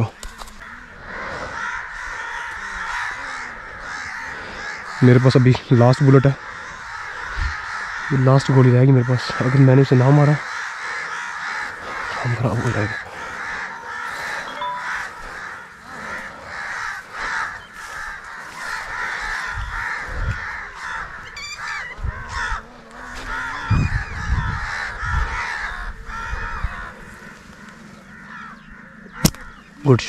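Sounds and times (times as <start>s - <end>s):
crows cawing: 0.0s - 30.0s.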